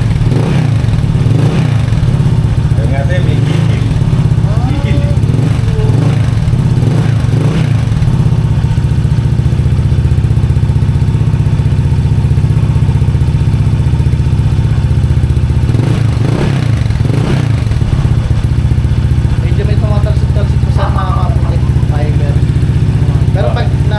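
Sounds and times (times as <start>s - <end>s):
scooter engine running: 0.0s - 23.9s.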